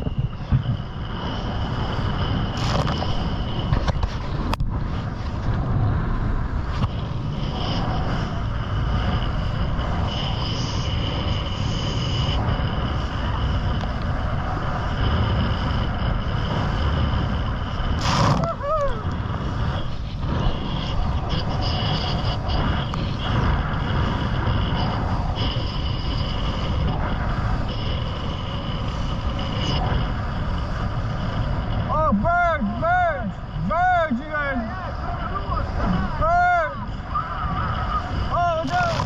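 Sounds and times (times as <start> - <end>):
high whine: 0.0 - 39.0
motorboat engine running: 0.0 - 39.0
wind and water rushing: 0.0 - 39.0.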